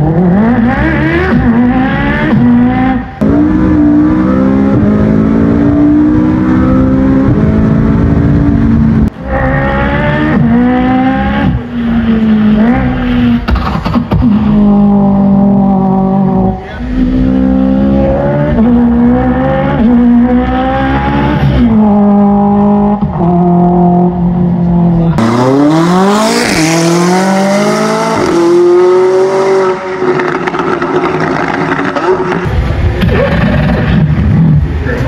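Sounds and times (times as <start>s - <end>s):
car accelerating hard: 0.0s - 35.0s.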